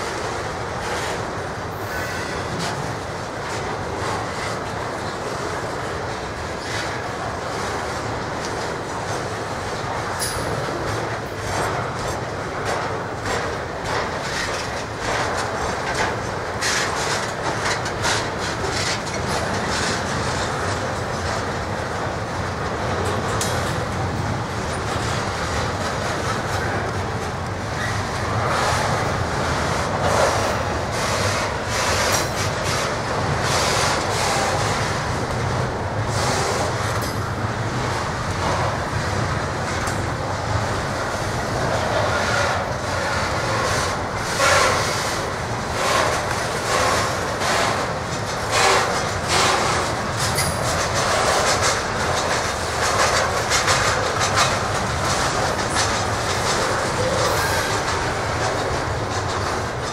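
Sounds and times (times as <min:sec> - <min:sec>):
train wheels rumbling on rail: 0:00.0 - 0:59.9
wheels clacking over rail joints: 0:00.0 - 0:59.9.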